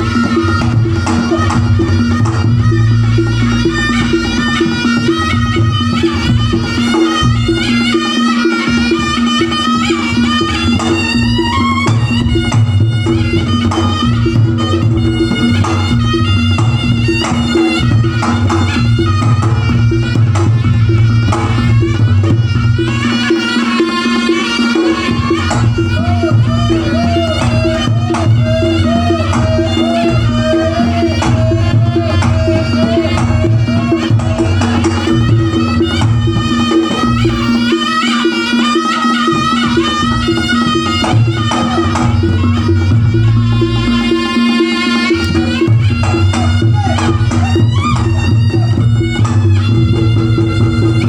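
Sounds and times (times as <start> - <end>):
gamelan ensemble playing: 0.0 - 51.0
hand drumming: 0.0 - 51.0
struck tuned notes: 0.0 - 51.0.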